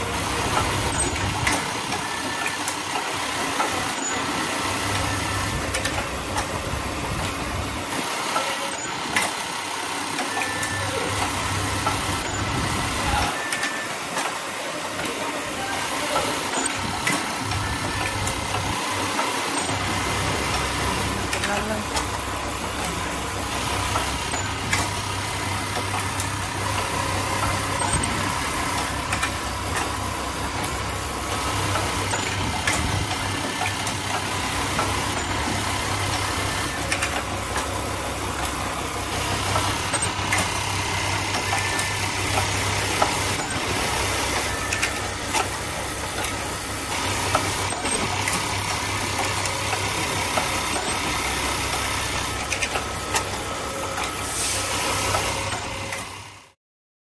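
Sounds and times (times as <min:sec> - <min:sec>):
machine mechanical hum: 0:00.0 - 0:56.6.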